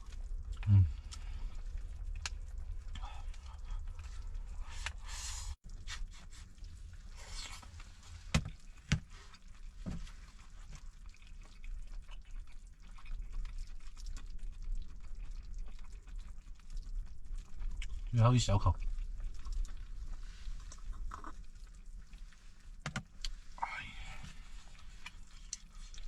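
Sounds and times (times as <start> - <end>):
eating and drinking sounds: 0.0 - 26.0.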